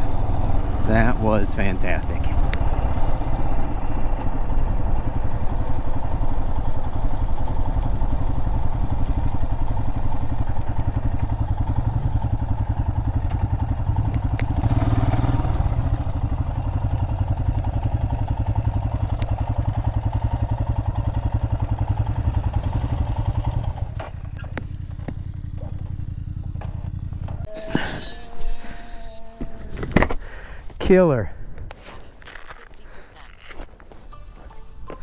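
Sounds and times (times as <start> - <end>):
motorcycle engine running: 0.0 - 30.7, 31.7 - 35.0
road noise: 0.0 - 35.0.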